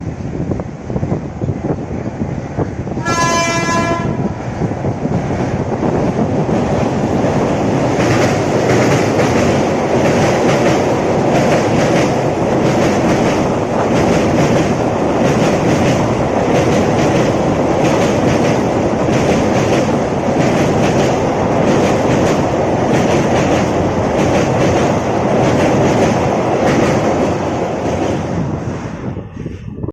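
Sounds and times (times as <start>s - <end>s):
train rumbling over bridge: 0.0s - 29.9s.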